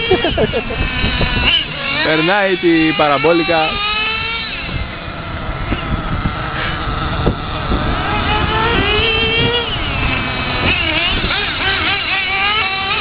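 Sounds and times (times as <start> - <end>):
model car motor whining: 0.0 - 13.0.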